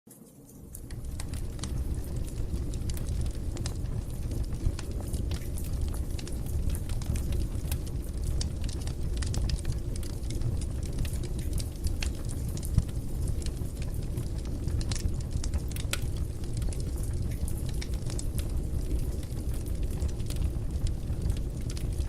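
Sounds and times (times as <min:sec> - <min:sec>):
fire crackling and snapping: 0:00.2 - 0:22.0
fire flames rumbling: 0:00.6 - 0:22.0.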